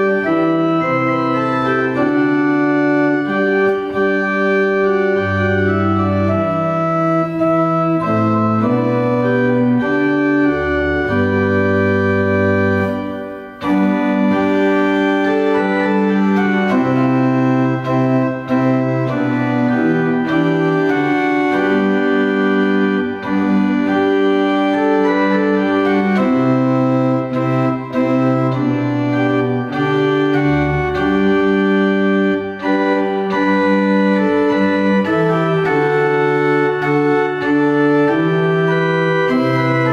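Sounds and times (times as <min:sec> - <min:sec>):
pipe organ playing a hymn: 0:00.0 - 0:39.9.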